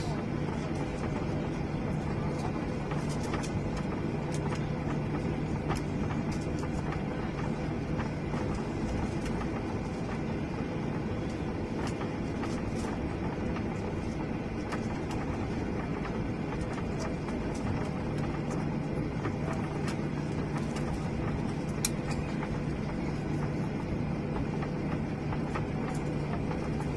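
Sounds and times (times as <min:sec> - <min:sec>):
jet engine and airflow noise: 0:00.0 - 0:26.9.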